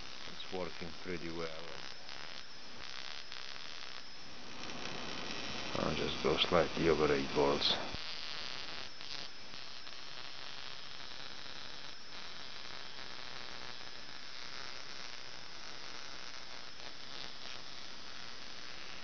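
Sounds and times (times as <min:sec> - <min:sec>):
spark gap hissing: 0:00.0 - 0:19.0.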